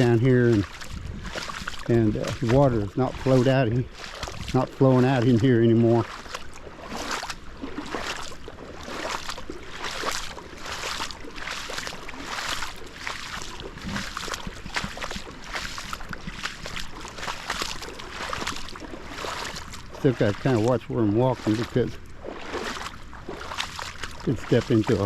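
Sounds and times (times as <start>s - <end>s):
footsteps sloshing through water: 0.0s - 25.0s
rushing water: 0.0s - 25.0s.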